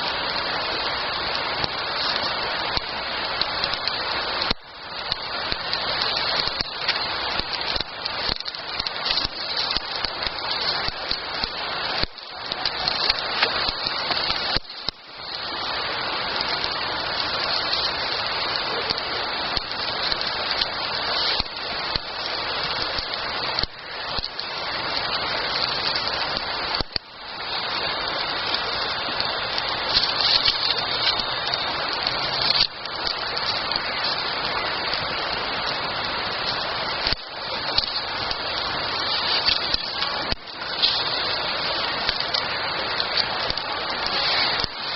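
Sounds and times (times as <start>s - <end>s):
campfire crackling and hissing: 0.0s - 44.9s.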